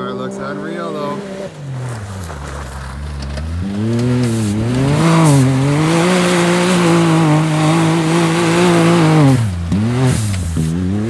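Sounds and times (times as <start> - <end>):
engine revving hard: 0.0 - 2.1, 3.4 - 11.0
tyres churning through mud: 0.0 - 11.0.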